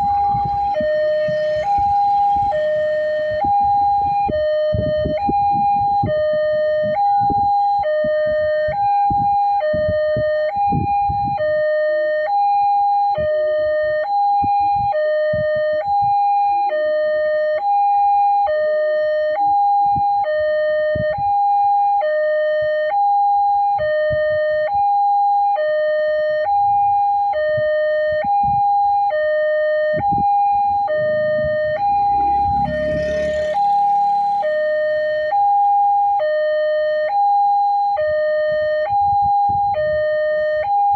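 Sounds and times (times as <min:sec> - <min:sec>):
level crossing two-tone alarm: 0:00.0 - 0:40.9.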